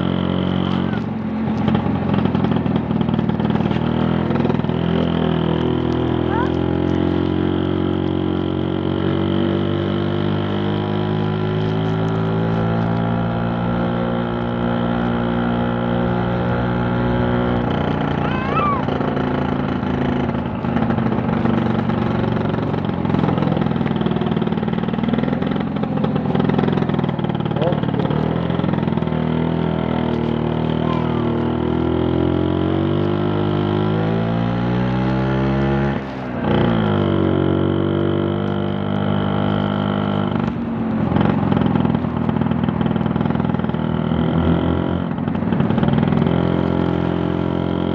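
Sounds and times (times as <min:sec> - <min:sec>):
scooter engine running: 0:00.0 - 0:47.9.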